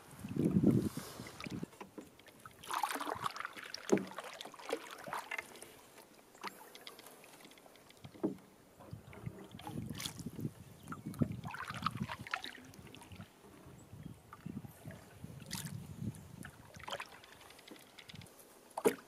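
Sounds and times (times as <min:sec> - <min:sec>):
paddle strokes splashing in water: 0:00.0 - 0:19.0.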